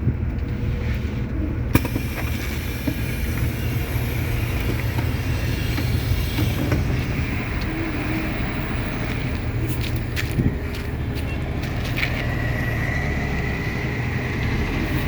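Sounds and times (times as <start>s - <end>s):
heavy truck engine rumbling: 0.0s - 15.0s.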